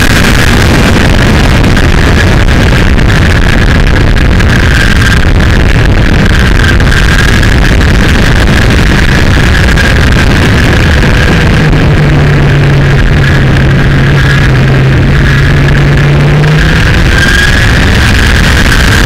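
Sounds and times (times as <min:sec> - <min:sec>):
motorcycle engine running: 0:00.0 - 0:19.0
wind rush: 0:00.0 - 0:19.0.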